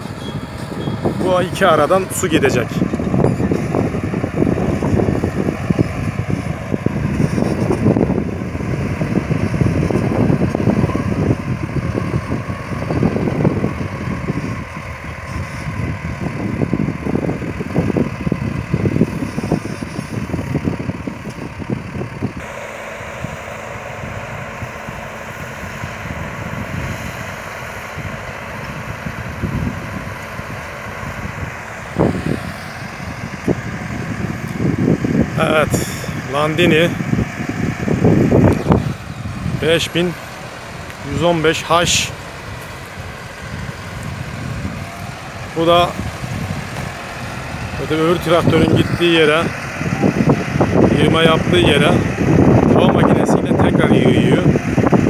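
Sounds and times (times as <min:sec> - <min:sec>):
gusty low rumbling: 0:00.0 - 0:55.0
tractor engine drone: 0:00.0 - 0:55.0.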